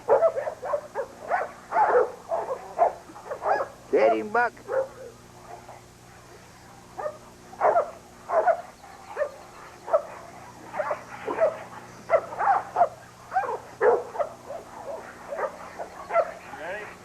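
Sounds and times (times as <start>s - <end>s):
dog barking: 0.0s - 6.4s, 7.0s - 16.9s
faint steady hum: 0.0s - 17.0s.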